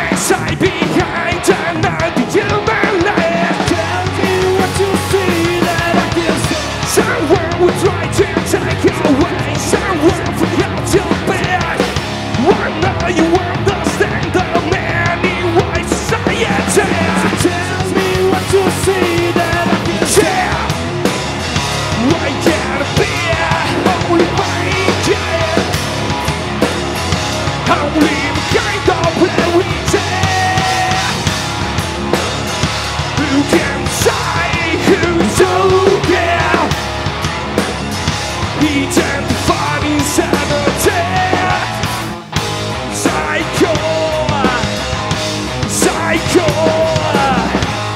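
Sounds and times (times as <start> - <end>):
person singing: 0.0 - 20.8, 21.9 - 25.9, 27.6 - 31.4, 33.1 - 36.8, 38.5 - 42.0, 42.9 - 44.9, 45.6 - 47.7
drums: 0.0 - 47.9
electric guitars: 0.0 - 47.9.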